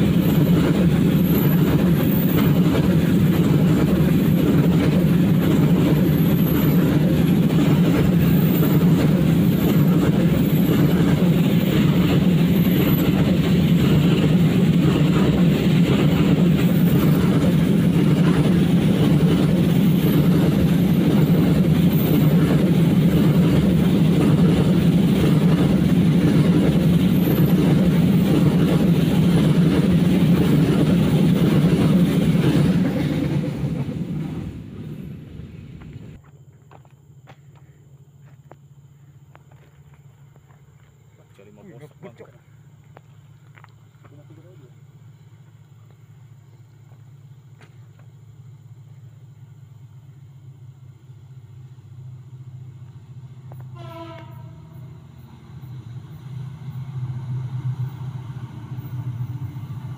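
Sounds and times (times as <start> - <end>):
freight train rolling past: 0.0 - 36.4, 38.0 - 59.9.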